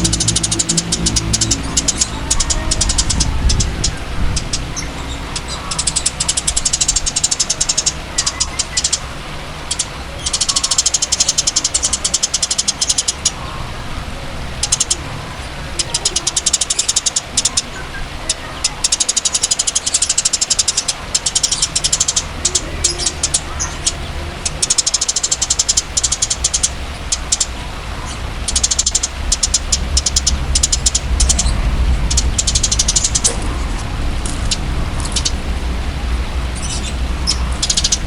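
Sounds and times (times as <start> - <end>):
low background hum: 0.0 - 38.0
songbird buzzing trills: 0.0 - 38.0.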